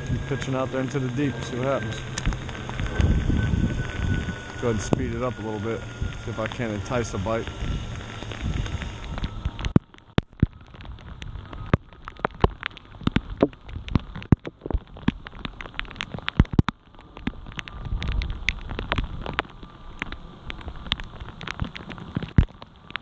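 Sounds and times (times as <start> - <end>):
low rumble: 0.0 - 23.0
rain hissing on pond: 0.0 - 23.0
raindrops ticking near microphone: 0.0 - 23.0.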